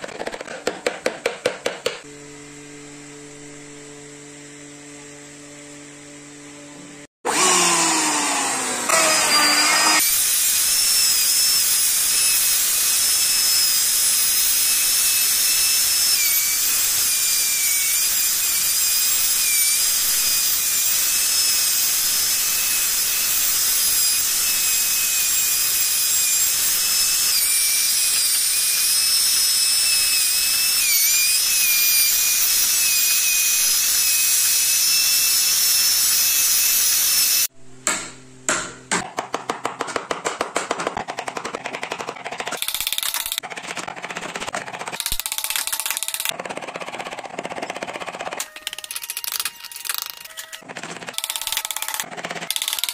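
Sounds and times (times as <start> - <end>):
electric router whining: 2.0 - 37.5, 44.8 - 52.9.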